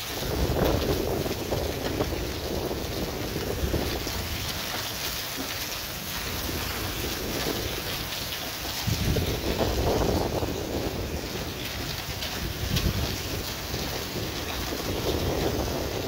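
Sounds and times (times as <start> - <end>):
rain and hail falling: 0.0 - 16.0
wind buffeting microphone: 0.0 - 16.0.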